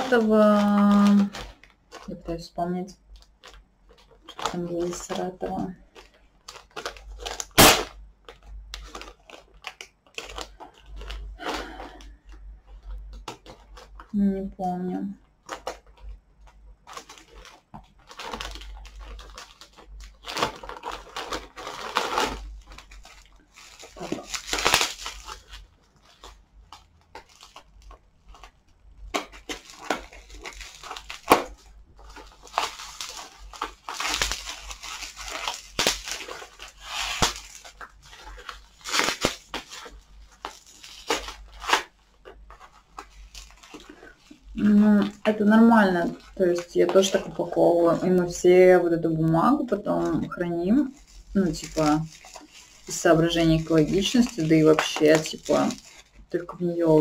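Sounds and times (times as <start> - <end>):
packing paper crinkling and tearing: 0.0 - 57.0.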